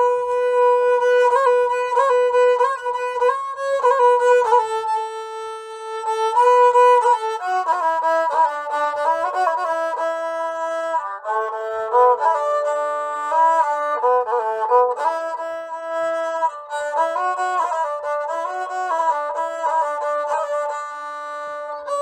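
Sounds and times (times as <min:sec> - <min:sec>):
bowed fiddle melody: 0:00.0 - 0:22.0.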